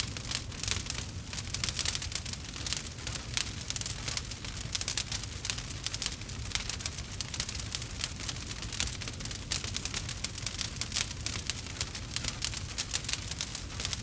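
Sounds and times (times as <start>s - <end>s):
campfire crackling and popping: 0.0s - 14.0s
low fire rumble: 0.0s - 14.0s.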